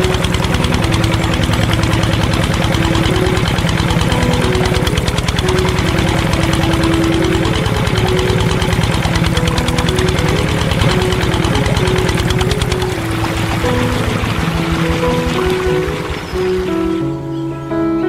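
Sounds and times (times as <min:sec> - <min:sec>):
tractor engine chugging: 0:00.0 - 0:17.3.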